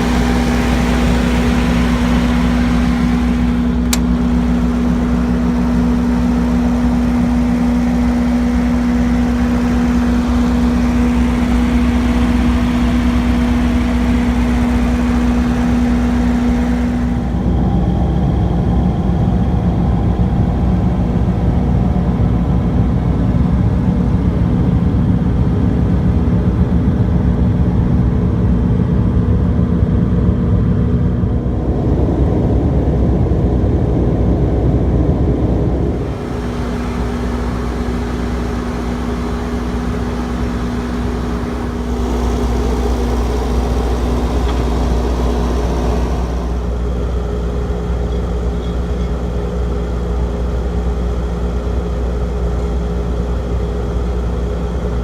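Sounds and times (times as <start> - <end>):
diesel generator humming: 0.0 - 55.0.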